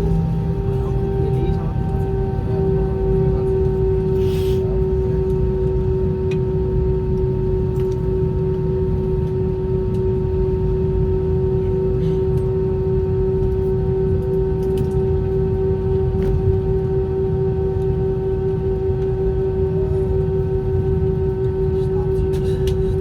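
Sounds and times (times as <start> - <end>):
aircraft cabin engine drone: 0.0 - 23.0.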